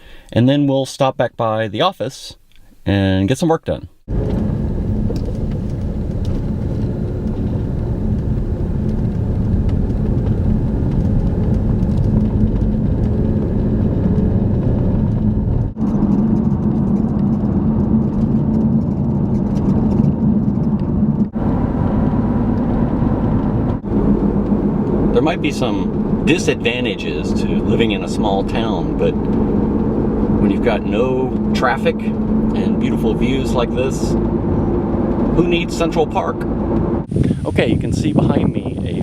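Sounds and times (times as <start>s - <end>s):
car engine and road noise: 4.0s - 39.0s.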